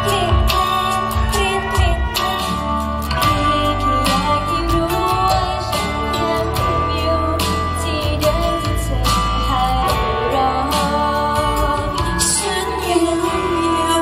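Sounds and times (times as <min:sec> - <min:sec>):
pop backing track with bass: 0:00.0 - 0:14.0
woman singing into microphone: 0:00.0 - 0:14.0.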